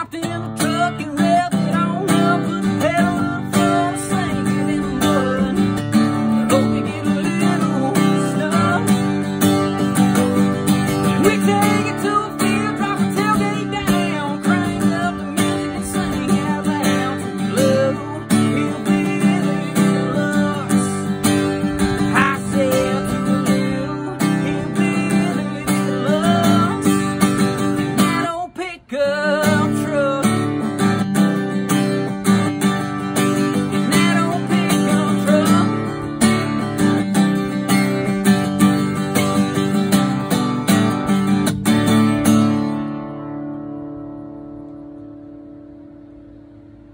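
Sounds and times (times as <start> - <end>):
man singing: 0.0 - 40.8
acoustic guitar strumming: 0.0 - 46.9.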